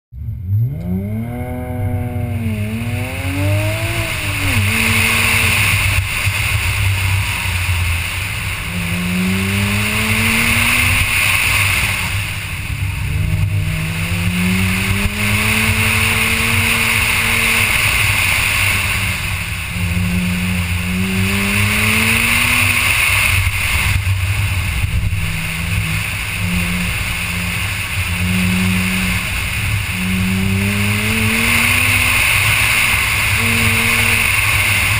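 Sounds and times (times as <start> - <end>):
car engine accelerating: 0.1 - 34.9
low rumble: 0.1 - 34.9
constant hiss: 1.7 - 34.9.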